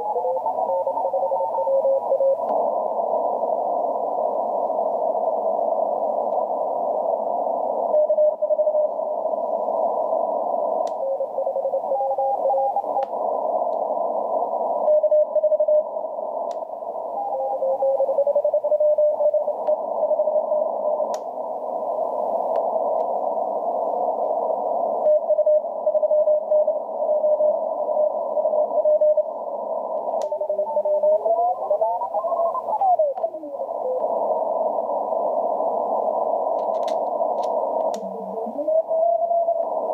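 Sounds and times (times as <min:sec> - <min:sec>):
radio band hiss: 0:00.0 - 0:39.9
static clicks: 0:00.0 - 0:39.9.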